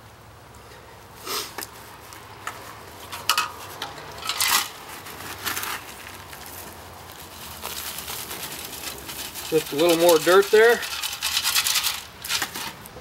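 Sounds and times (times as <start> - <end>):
dirt sifting: 1.2 - 13.0
gritty scrapes of dirt scooping: 1.2 - 13.0.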